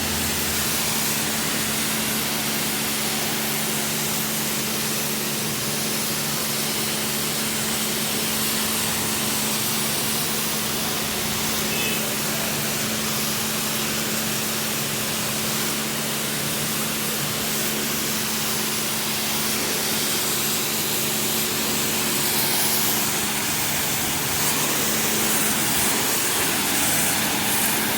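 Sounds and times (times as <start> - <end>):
pump humming: 0.0 - 27.9
water spraying from nozzles: 0.0 - 27.9.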